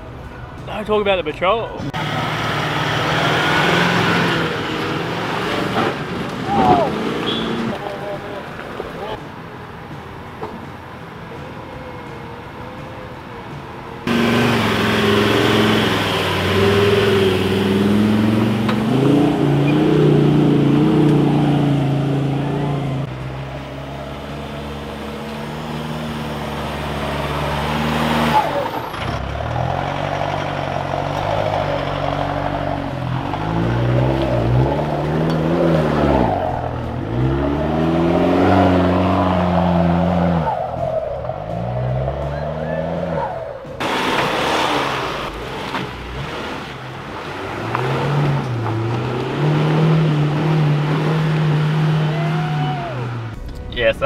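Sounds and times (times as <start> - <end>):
engines revving hard: 1.8 - 9.2, 14.0 - 53.4.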